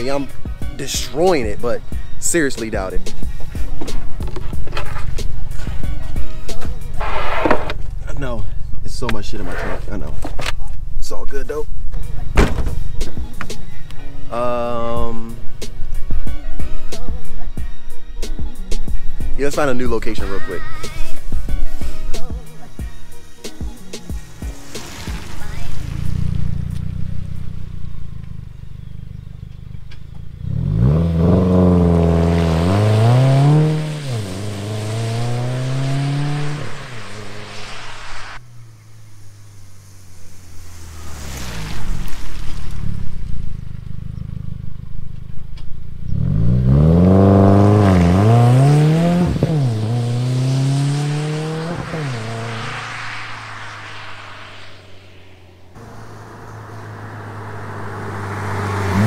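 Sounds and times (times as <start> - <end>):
car engine idling and accelerating: 0.0 - 59.0.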